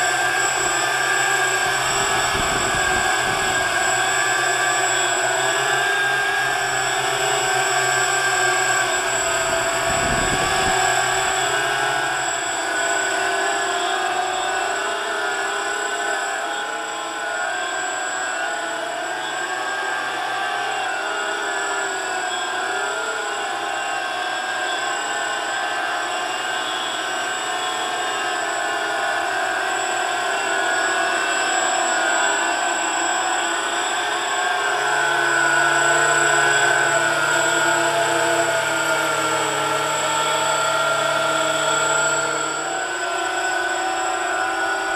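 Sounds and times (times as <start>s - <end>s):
drone propellers whining: 0.0s - 44.9s.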